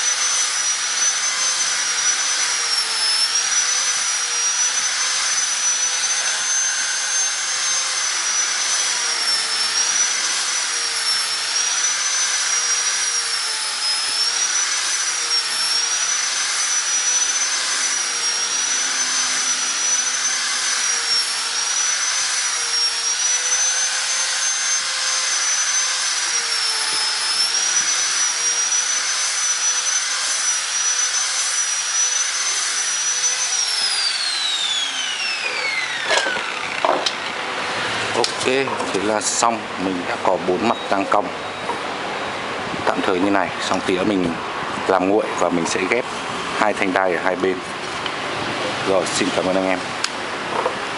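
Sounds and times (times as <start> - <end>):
electric sander whining: 0.0 - 50.8.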